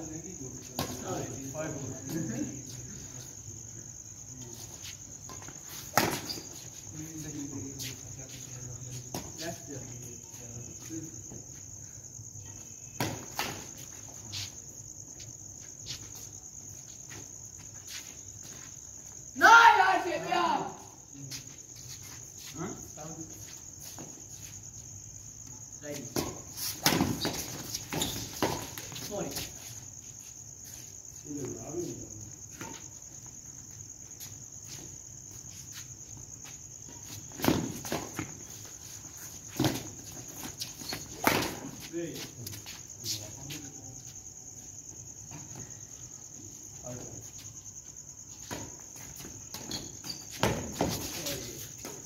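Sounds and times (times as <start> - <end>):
crickets chirring: 0.0 - 52.0.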